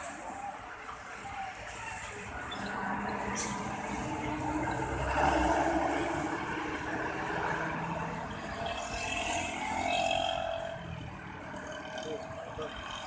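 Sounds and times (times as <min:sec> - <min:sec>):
passing vehicle engine and tyres: 0:00.0 - 0:13.0
traffic rumble: 0:00.0 - 0:13.0.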